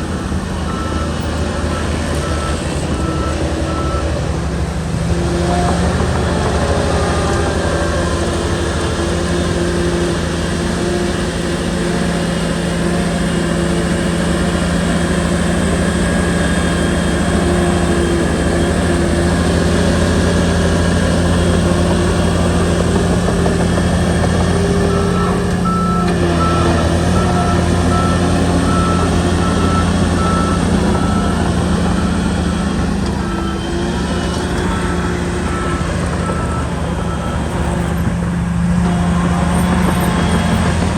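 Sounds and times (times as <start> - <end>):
reversing alarm beeping: 0.0 - 4.3, 5.9 - 40.8
bulldozer diesel engine running: 0.0 - 40.9.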